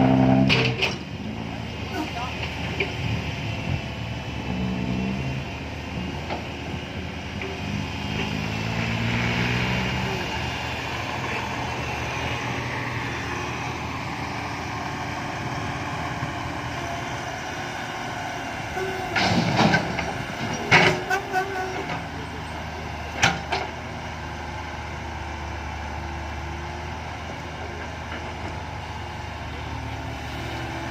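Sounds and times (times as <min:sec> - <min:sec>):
dump truck engine running: 0:00.0 - 0:30.9.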